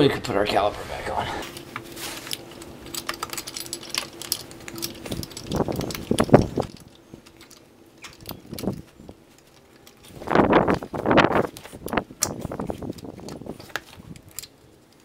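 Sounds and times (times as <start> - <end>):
metal parts clicking and scraping: 1.4 - 15.0.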